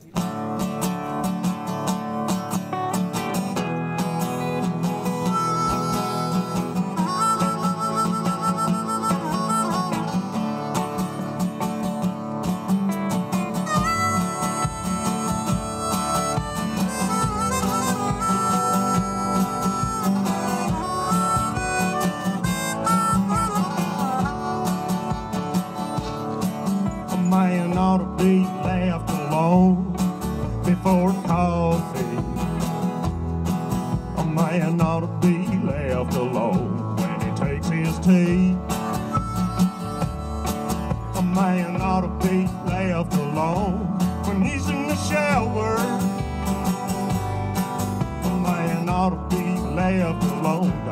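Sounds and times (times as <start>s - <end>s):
harmonica melody: 0.0s - 50.9s
strummed acoustic guitar: 0.0s - 50.9s.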